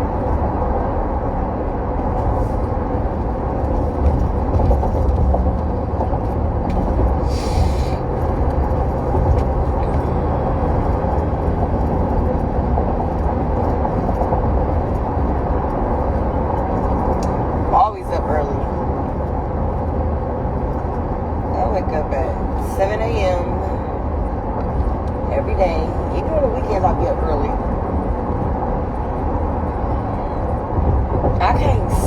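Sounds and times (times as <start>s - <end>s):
vehicle interior rumble: 0.0s - 32.0s.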